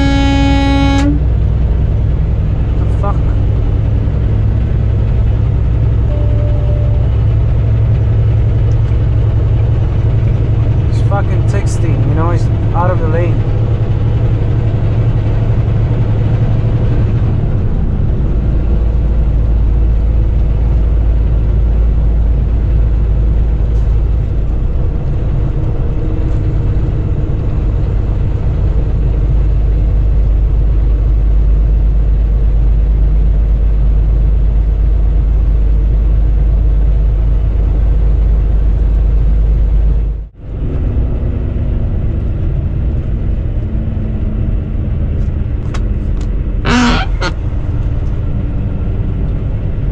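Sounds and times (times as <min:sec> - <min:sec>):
road rumble: 0:00.0 - 0:49.9
truck engine drone: 0:00.0 - 0:49.9.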